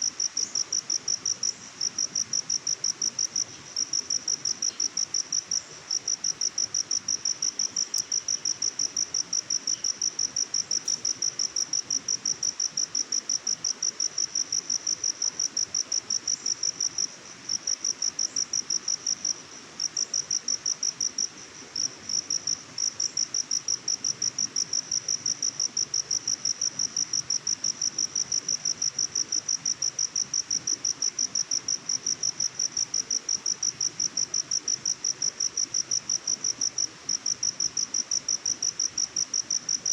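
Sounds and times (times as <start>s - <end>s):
cricket chirping: 0.0s - 39.9s
faint background hiss: 0.0s - 39.9s.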